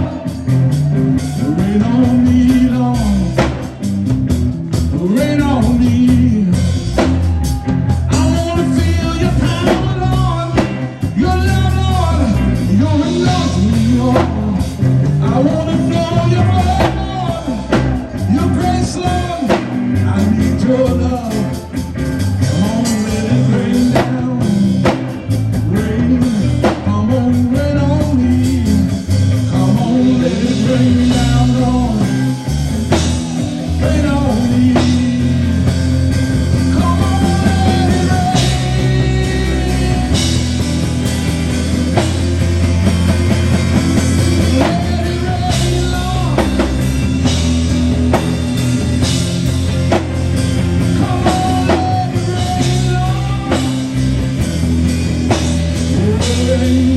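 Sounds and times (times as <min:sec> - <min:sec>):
gospel band playing: 0:00.0 - 0:56.9
melodic lead line bending: 0:00.0 - 0:56.9.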